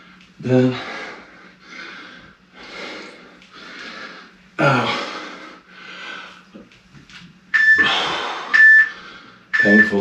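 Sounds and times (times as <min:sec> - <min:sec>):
man breathing heavily: 0:00.0 - 0:06.6, 0:07.8 - 0:09.5.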